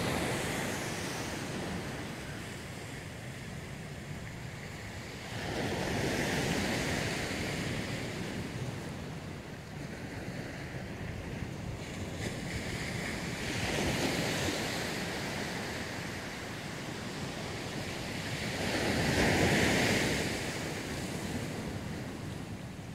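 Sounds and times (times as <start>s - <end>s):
waves on a rocky shore: 0.0s - 22.9s
wind on the microphone: 0.0s - 22.9s.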